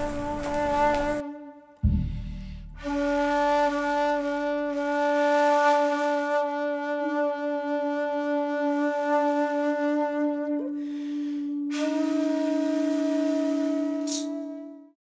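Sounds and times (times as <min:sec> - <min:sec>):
wind instrument long note: 0:00.0 - 0:15.0.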